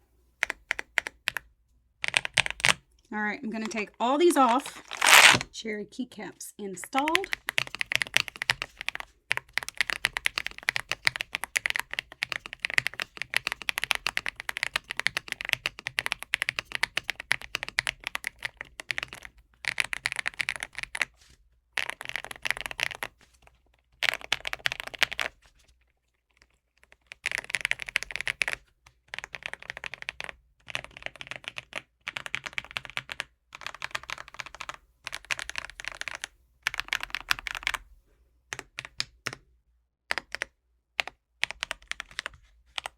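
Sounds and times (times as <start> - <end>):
typing on mechanical keyboard: 0.4 - 2.8, 6.9 - 21.2, 21.8 - 23.2, 24.0 - 25.4, 26.3 - 37.8, 38.5 - 39.4, 40.1 - 42.9.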